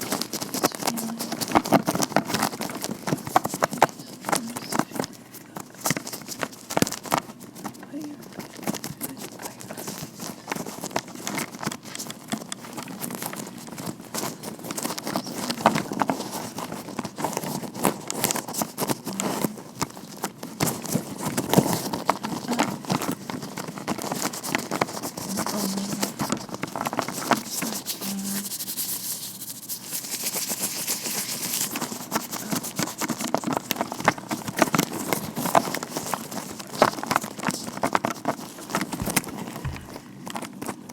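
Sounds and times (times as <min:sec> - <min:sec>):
gloved hands rubbing and tapping: 0:00.0 - 0:40.9.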